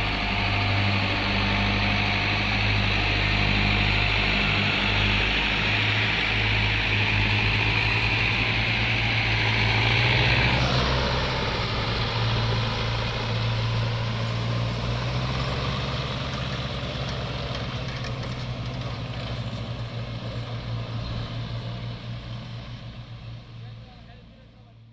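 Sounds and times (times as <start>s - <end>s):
diesel tractor engines running: 0.0s - 24.9s.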